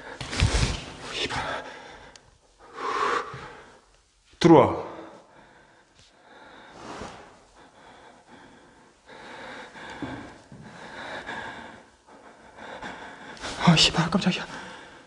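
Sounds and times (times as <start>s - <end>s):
person breathing: 0.0s - 3.9s, 5.0s - 15.0s.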